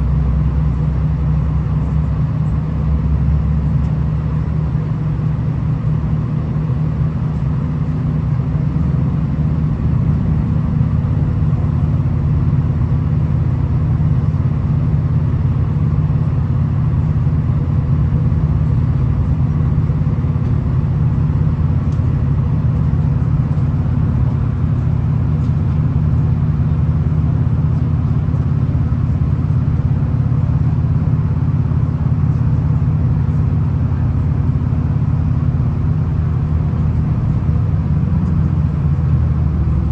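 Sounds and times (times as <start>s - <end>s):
diesel railcar rumbling: 0.0s - 39.9s.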